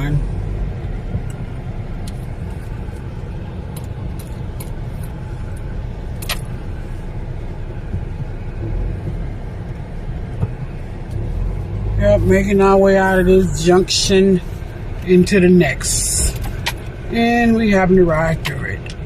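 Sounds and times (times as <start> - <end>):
car driving on rough wet street: 0.0 - 19.0.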